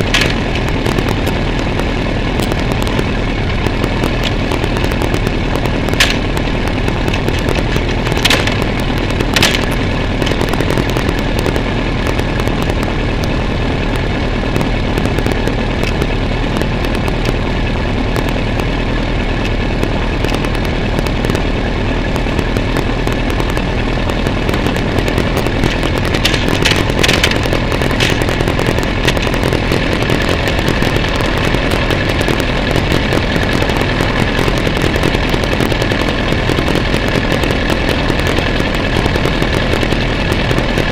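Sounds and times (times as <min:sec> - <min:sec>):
brief crackling sounds: 0:00.0 - 0:17.4, 0:19.4 - 0:40.9
motorcycle engine idling: 0:00.0 - 0:40.9.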